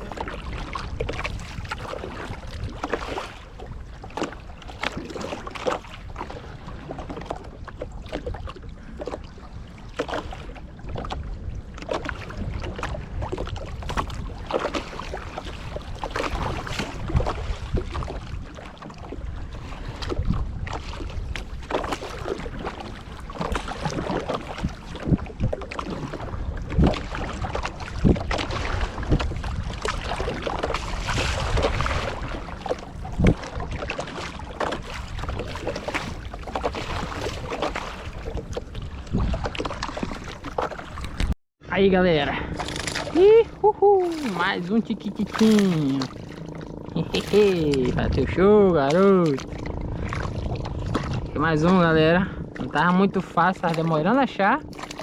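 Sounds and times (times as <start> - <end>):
waves lapping against wooden canoe: 0.0 - 55.0
wind buffeting microphone: 0.0 - 55.0.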